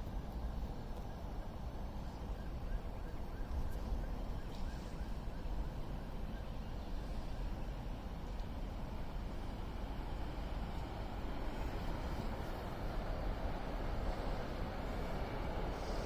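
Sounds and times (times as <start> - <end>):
railway platform low rumble: 0.0 - 16.0.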